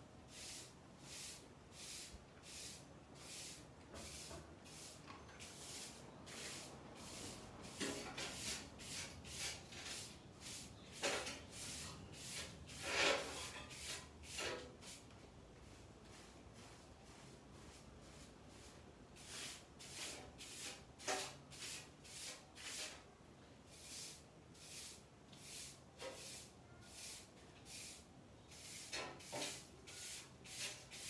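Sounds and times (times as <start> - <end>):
broom sweeping a tiled floor: 0.1 - 31.0.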